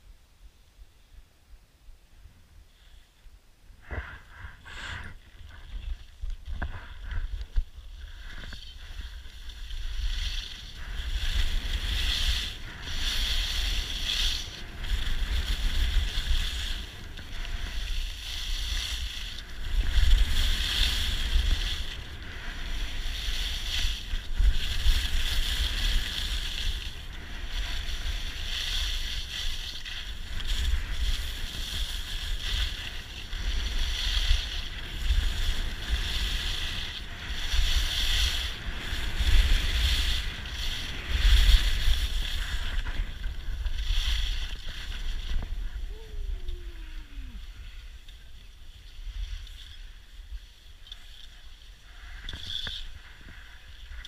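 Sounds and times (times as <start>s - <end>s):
wind rumbling on microphone: 3.6s - 54.0s
skis scraping over snow: 3.8s - 54.0s.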